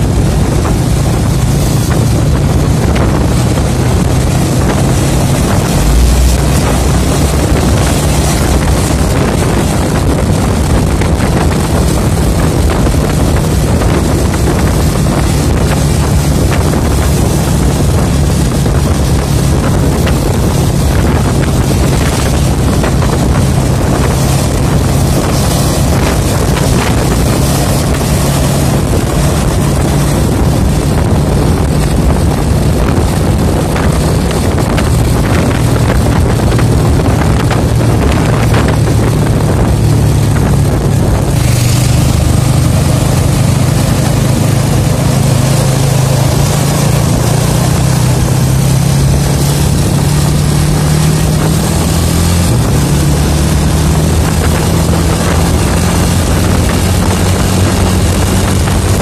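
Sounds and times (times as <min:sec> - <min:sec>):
vehicle engine droning: 0:00.0 - 0:59.0
wind noise: 0:00.0 - 0:59.0.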